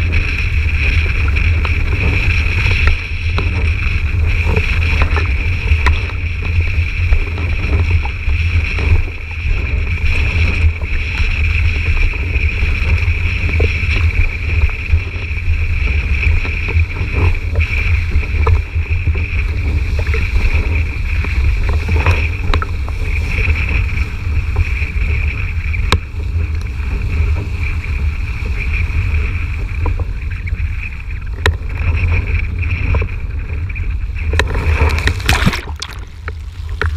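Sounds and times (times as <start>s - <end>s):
board through choppy water: 0.0s - 36.9s
wind buffeting microphone: 0.0s - 36.9s.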